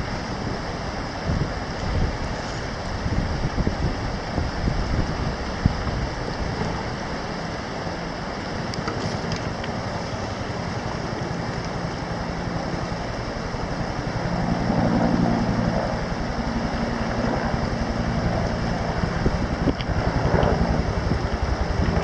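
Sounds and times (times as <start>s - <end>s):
helicopter engine and downwash rush: 0.0s - 22.0s
helicopter rotor pulsing: 0.0s - 22.0s.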